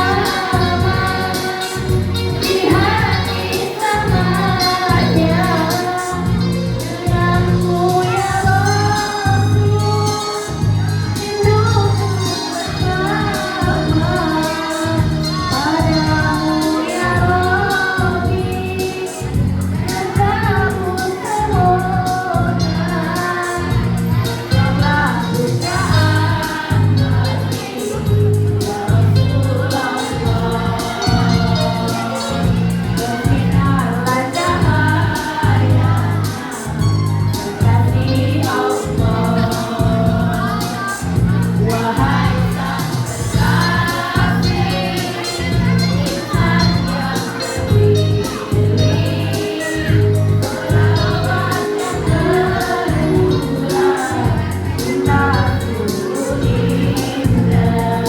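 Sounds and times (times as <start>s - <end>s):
choir singing: 0.0s - 58.0s
deep bass notes: 0.0s - 58.0s
instrumental accompaniment: 0.0s - 58.0s.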